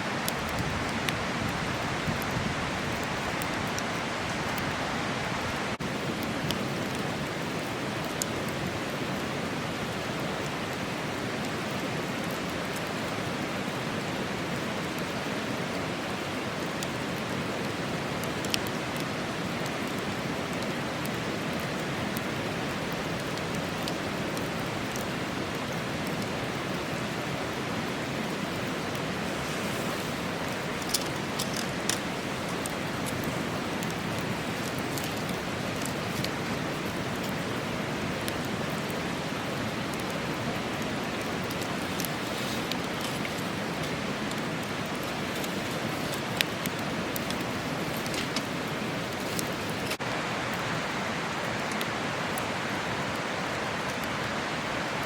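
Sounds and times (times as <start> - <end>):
campfire crackling: 0.0 - 55.0
river rushing: 0.0 - 55.0.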